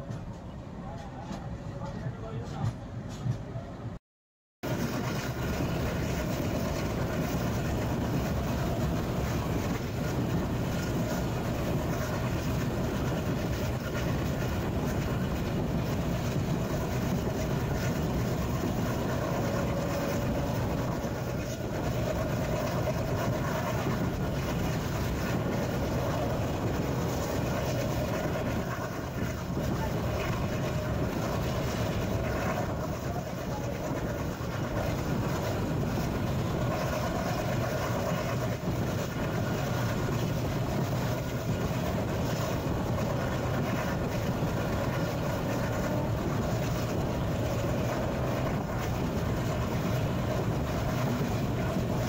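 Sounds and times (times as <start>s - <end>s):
train wheels rumbling on rails: 0.0s - 4.0s, 4.6s - 52.0s.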